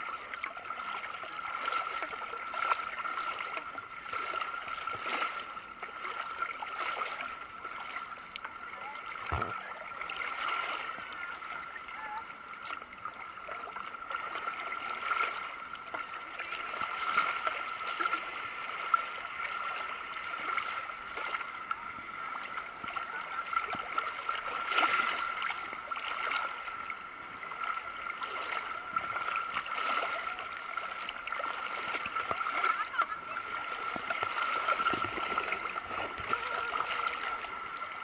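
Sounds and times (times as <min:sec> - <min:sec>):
sea water sloshing and lapping: 0:00.0 - 0:38.0.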